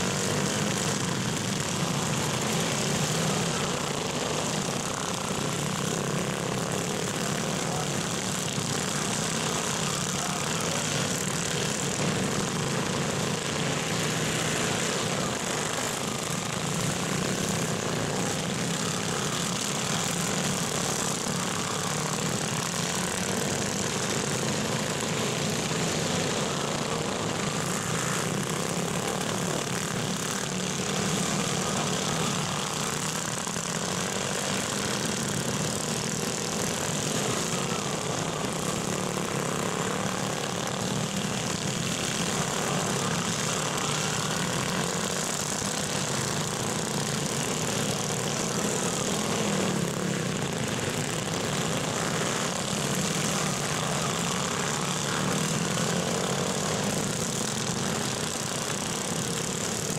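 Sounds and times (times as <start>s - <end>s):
small engines droning: 0.0s - 59.9s.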